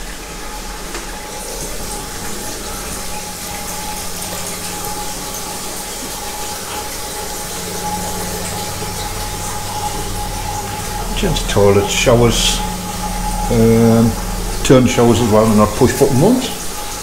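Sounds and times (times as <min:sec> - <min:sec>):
constant low hum: 0:00.0 - 0:17.0
running water hissing: 0:00.0 - 0:17.0.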